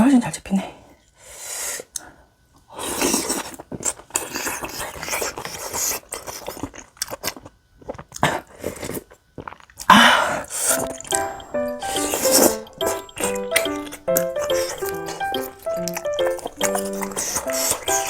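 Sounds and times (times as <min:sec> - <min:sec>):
chewing and biting mouth sounds: 0:02.8 - 0:18.0.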